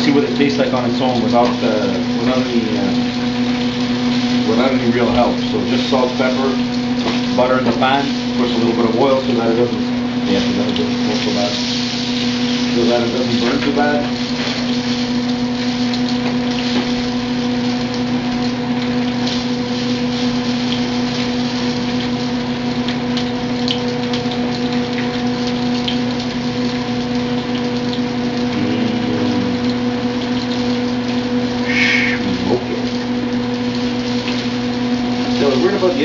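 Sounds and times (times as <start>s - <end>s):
meat sizzling in a pan: 0.0s - 36.0s
vent fan humming: 0.0s - 36.0s.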